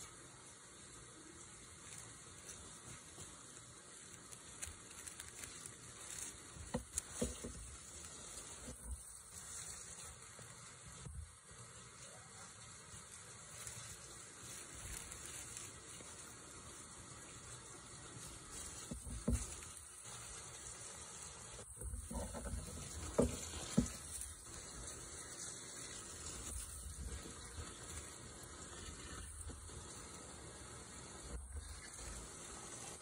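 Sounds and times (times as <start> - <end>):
dry leaves rustling and crunching: 0.7 - 33.0.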